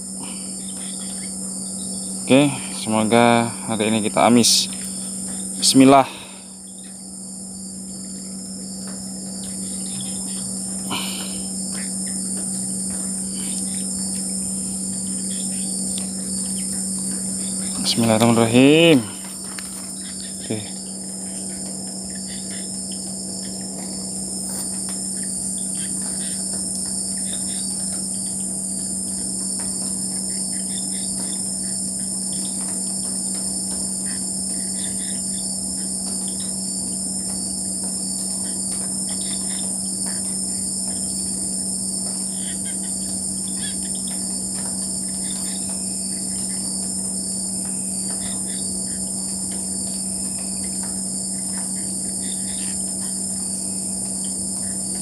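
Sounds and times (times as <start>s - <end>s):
crickets and insects chirping: 0.0s - 55.0s
frogs calling: 0.0s - 55.0s.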